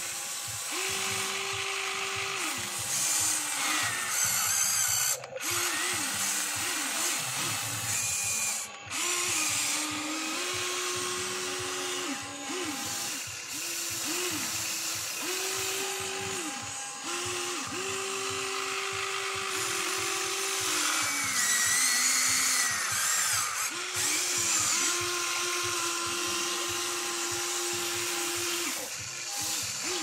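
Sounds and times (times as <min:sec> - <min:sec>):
toy excavator motors whining: 0:00.0 - 0:30.0.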